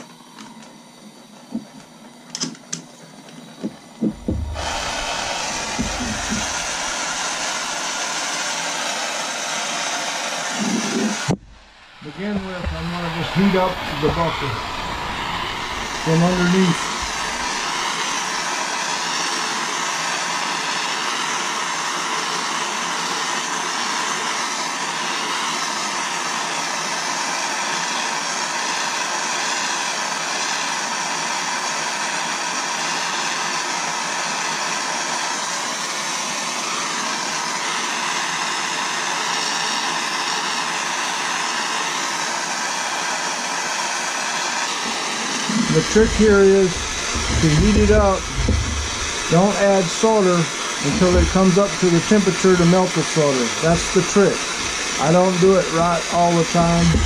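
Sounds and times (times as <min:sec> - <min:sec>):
torch flame hissing: 0:00.0 - 0:57.0.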